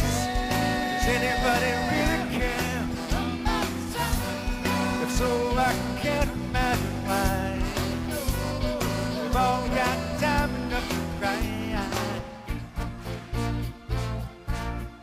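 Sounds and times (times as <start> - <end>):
horn section playing: 0.0 - 15.0
rock band playing: 0.0 - 15.0.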